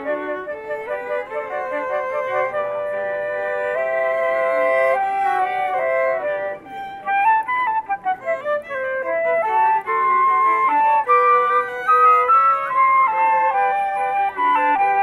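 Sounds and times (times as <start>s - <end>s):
flute and violins playing classical: 0.0s - 15.0s.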